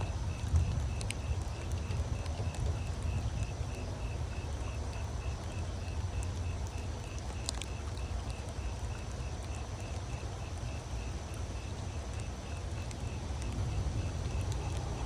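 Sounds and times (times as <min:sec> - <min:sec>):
drips ticking: 0:00.0 - 0:15.0
steady rain: 0:00.0 - 0:15.0
wind rumbling on microphone: 0:00.0 - 0:15.0.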